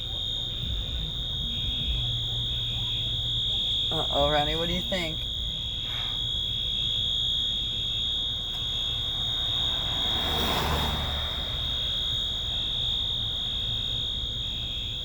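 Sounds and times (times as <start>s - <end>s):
fire alarm continuous tone: 0.0s - 15.0s.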